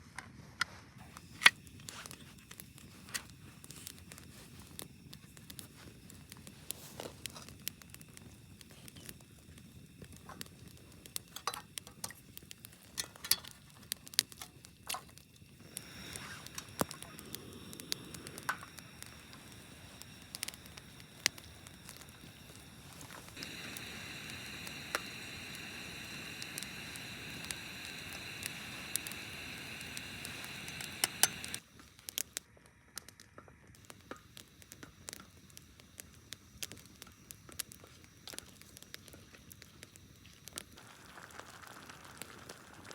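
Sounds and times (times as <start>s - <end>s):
steady hiss: 0.7s - 42.9s
campfire crackling and popping: 1.0s - 42.9s.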